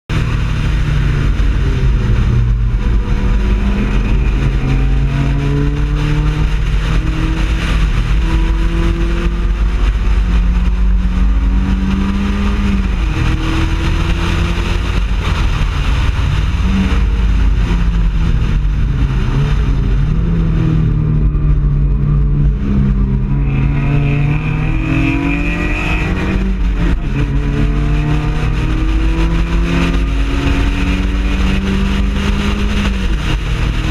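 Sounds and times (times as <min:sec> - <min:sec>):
race car engine accelerating: 0:00.1 - 0:33.9
wind and road noise: 0:00.1 - 0:33.9.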